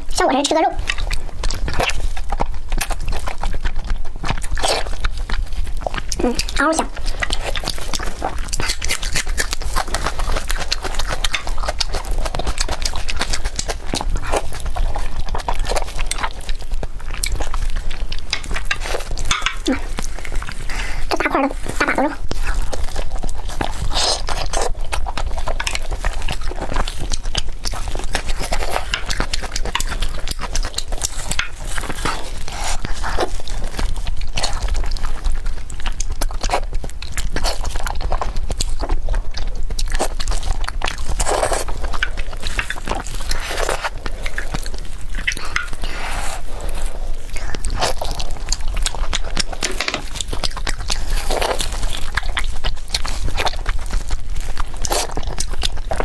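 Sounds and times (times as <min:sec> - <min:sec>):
chewing with mouth clicks: 0:00.0 - 0:56.0.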